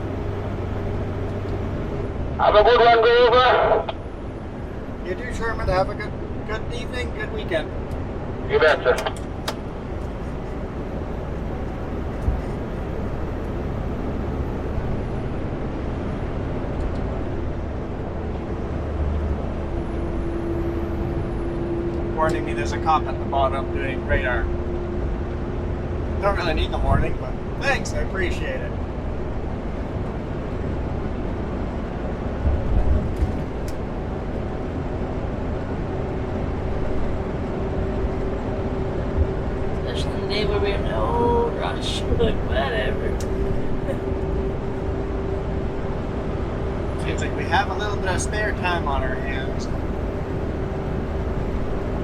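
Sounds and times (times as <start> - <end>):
truck engine and road noise: 0.0 - 52.0.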